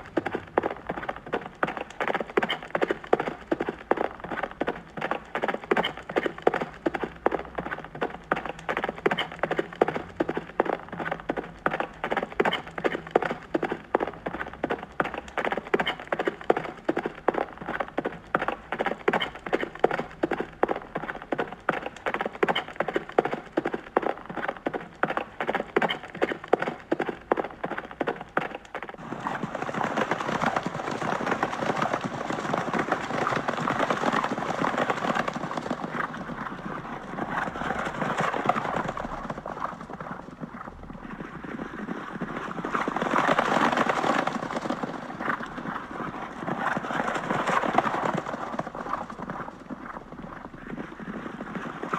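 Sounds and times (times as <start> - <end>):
horse hooves clip-clopping: 0.0 - 51.9.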